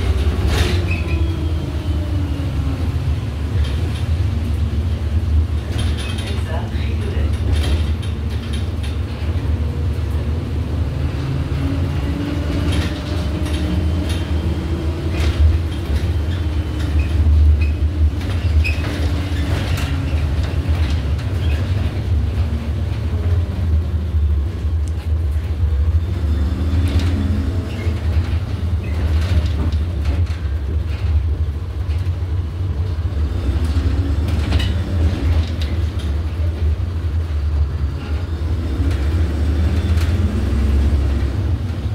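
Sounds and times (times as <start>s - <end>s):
bus drivetrain and road rumble: 0.0s - 41.9s.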